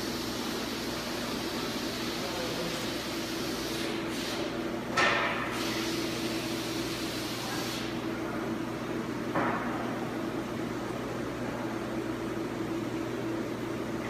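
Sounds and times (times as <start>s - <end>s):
workshop hum and hiss: 0.0s - 14.0s.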